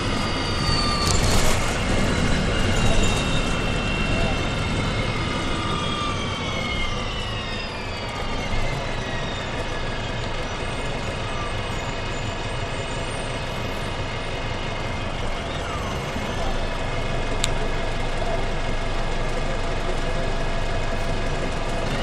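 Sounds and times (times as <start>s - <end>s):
bus engine drone: 0.0s - 22.0s
falling whine: 0.0s - 22.0s.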